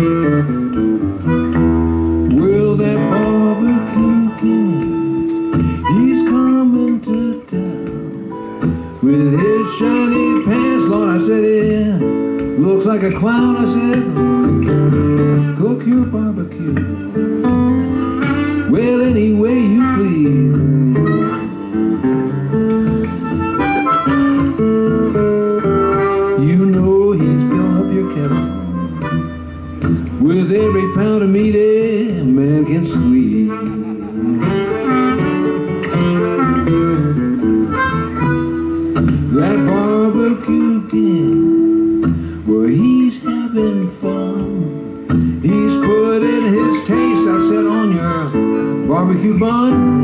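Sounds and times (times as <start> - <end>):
acoustic guitar: 0.0 - 50.0
blues harmonica soloing: 0.0 - 50.0
plucked string instrument: 0.0 - 50.0.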